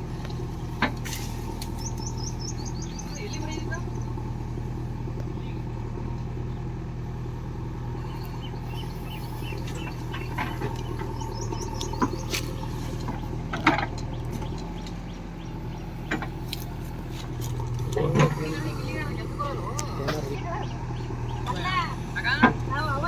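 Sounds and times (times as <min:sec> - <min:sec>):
birds chirping: 0:00.0 - 0:23.0
diesel engine running: 0:00.0 - 0:23.0.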